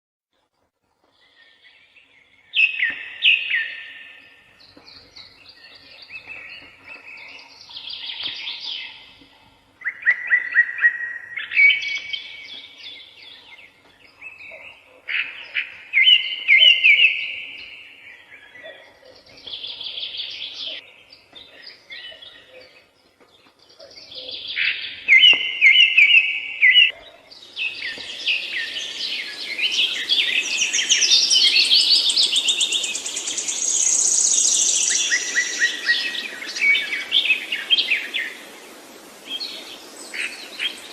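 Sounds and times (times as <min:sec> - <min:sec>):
birds chirping and trilling: 0:01.0 - 0:40.9.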